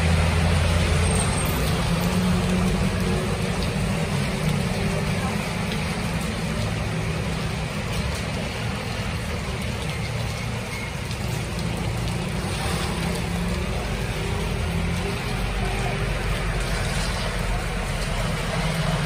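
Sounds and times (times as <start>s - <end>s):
heavy rain on flooded street: 0.0s - 19.0s
passing motor traffic rumble: 0.0s - 19.0s.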